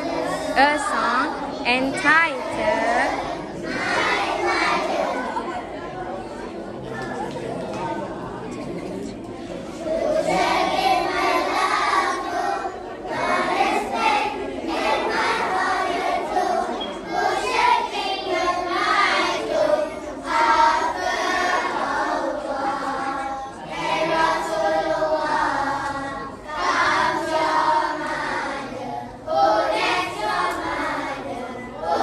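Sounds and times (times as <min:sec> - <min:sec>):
children's choir singing: 0:00.0 - 0:32.0.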